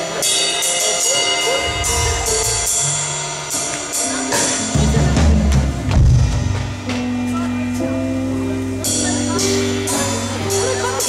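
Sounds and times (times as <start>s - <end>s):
high percussion strokes: 0.0s - 11.0s
low drums: 0.0s - 11.0s
held bass notes: 1.3s - 11.0s.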